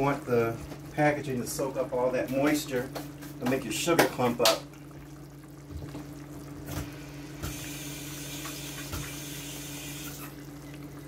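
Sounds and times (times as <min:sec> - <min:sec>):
faucet water running: 0:00.0 - 0:11.0.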